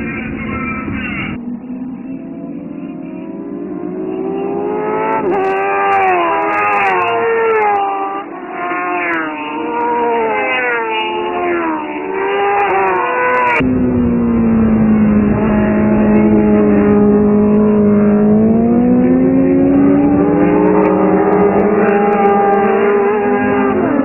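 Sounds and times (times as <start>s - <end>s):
loud steady engine note: 0.0s - 7.3s, 11.1s - 24.0s
racing motorcycles revving: 0.0s - 24.0s.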